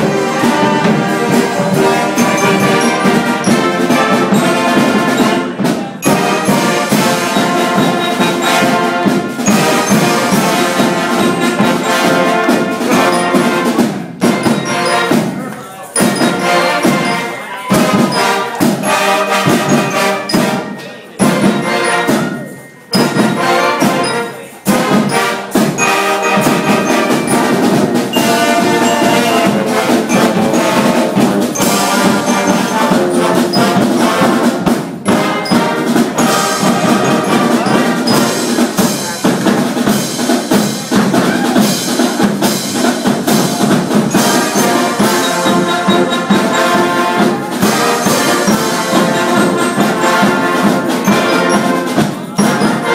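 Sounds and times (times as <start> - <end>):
band with brass and drums: 0.0 - 52.9.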